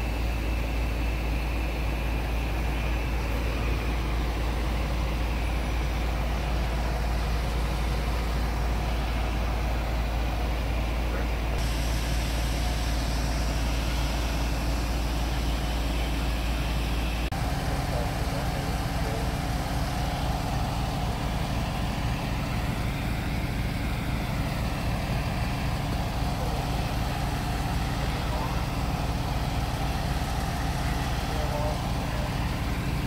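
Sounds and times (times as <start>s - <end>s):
diesel truck engine rumbling: 0.0s - 33.0s.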